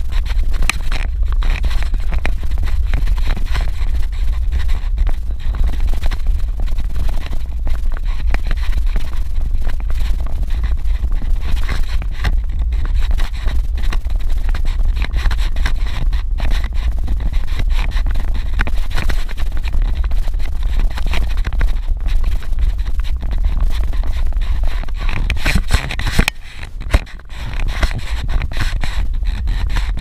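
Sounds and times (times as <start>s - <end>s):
tyres crunching on dirt road: 0.0s - 30.0s
vehicle engine low rumble: 0.0s - 30.0s.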